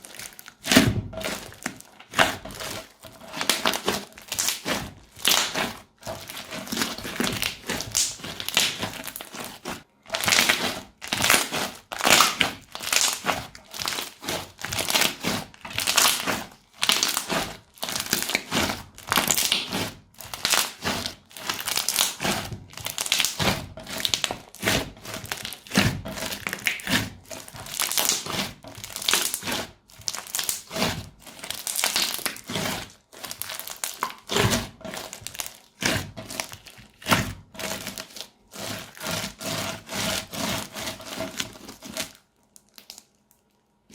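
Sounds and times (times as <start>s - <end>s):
crunchy slime crackling: 0.0s - 43.9s.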